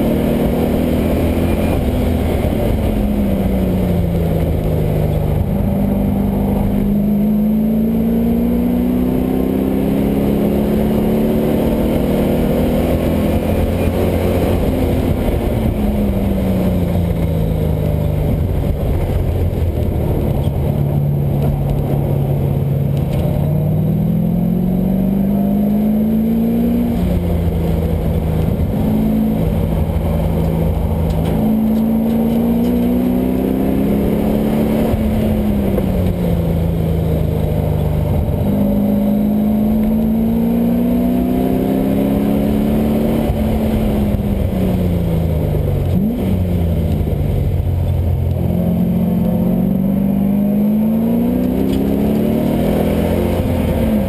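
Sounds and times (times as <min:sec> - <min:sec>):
car engine accelerating: 0:00.0 - 0:54.0
gear changes: 0:08.8 - 0:54.0.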